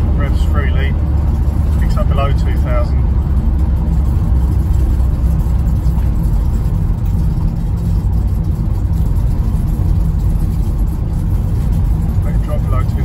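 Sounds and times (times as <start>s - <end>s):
diesel engine running: 0.0s - 13.0s
road noise: 0.0s - 13.0s.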